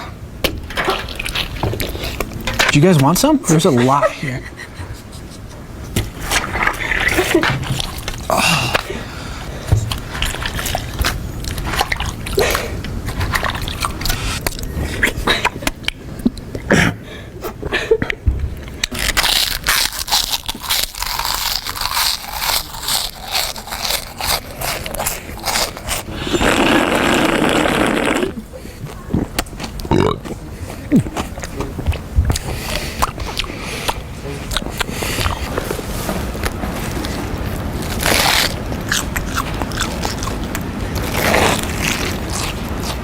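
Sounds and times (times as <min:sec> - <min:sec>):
person chewing noisily: 0:00.7 - 0:02.7, 0:05.8 - 0:43.0
slurping: 0:00.7 - 0:02.7, 0:05.9 - 0:17.6, 0:18.8 - 0:43.0.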